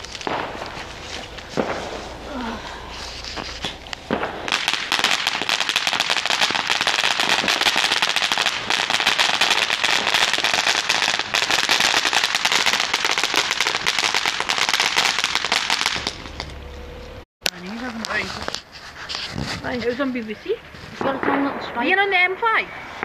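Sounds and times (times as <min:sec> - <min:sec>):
firework fountain crackling: 0:00.0 - 0:16.5, 0:17.4 - 0:23.0.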